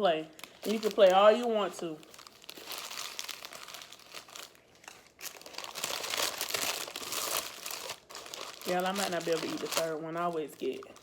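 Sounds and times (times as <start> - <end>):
paper packaging crinkling: 0.3 - 11.0.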